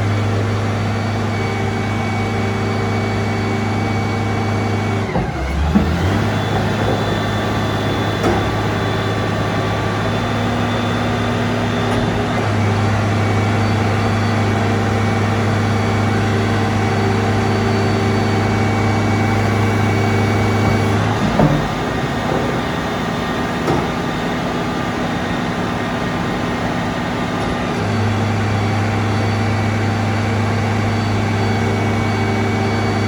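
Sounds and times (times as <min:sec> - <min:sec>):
diesel forklift engine running: 0:00.0 - 0:33.0.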